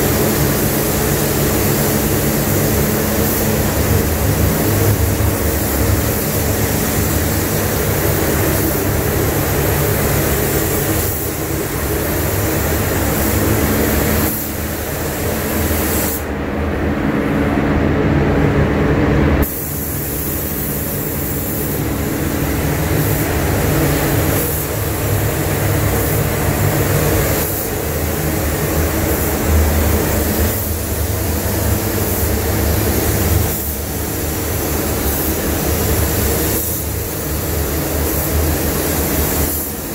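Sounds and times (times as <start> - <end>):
ventilation fans rushing air: 0.0 - 39.9.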